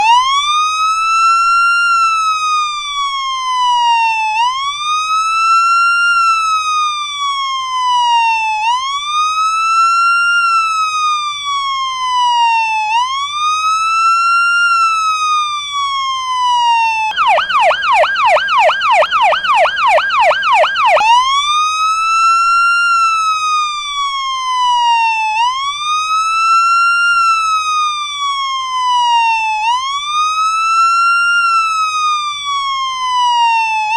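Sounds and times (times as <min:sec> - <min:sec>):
electronic police siren: 0:00.0 - 0:33.9.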